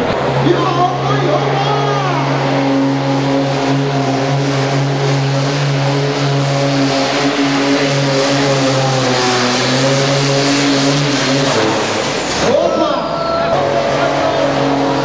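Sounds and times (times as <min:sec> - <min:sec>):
tractor engine at full throttle: 0:00.0 - 0:15.0.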